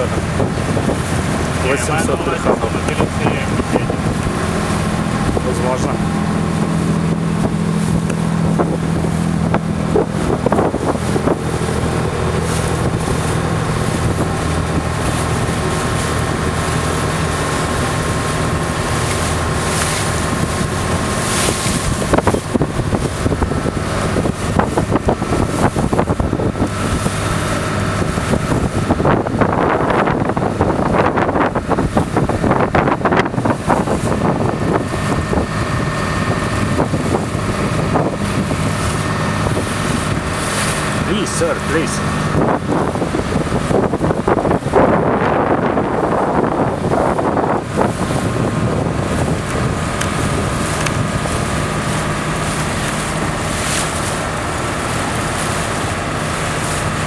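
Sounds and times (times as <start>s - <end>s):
boat engine running: 0.0s - 57.0s
water rushing: 0.0s - 57.0s
wind buffeting microphone: 0.0s - 57.0s.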